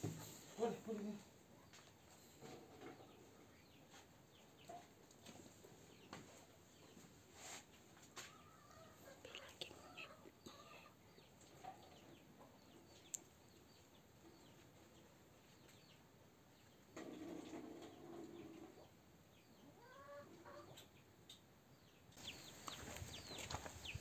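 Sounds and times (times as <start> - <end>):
chickens clucking faintly: 0.0 - 24.0
small birds chirping: 0.6 - 7.1, 8.1 - 24.0.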